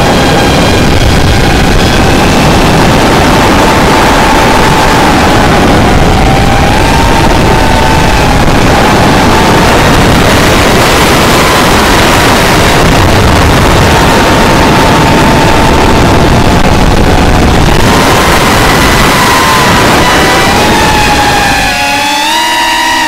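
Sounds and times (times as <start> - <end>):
wind rush: 0.0 - 23.0
drone motors whining: 0.1 - 23.0.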